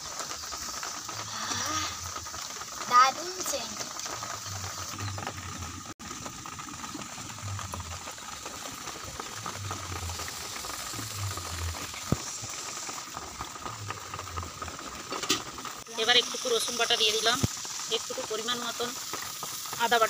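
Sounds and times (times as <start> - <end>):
chutney bubbling in a pan: 0.0 - 20.0.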